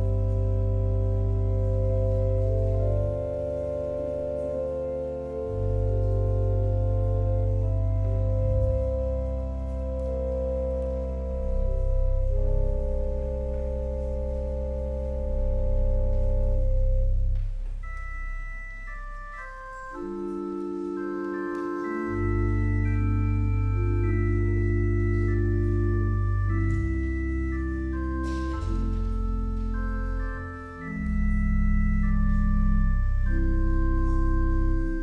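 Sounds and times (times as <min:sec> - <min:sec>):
church organ chords: 0:00.0 - 0:35.0
organ pedal bass notes: 0:00.0 - 0:35.0.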